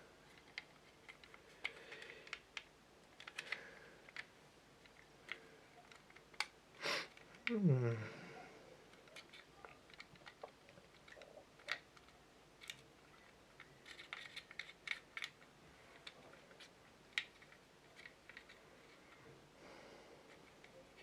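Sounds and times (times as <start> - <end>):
plastic parts clicking and scraping: 0.2 - 7.5, 8.9 - 19.4, 20.2 - 21.0.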